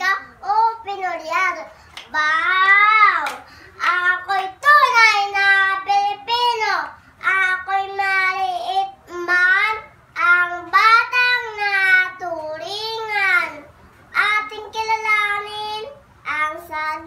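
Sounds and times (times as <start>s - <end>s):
girl reciting a poem: 0.0s - 17.0s.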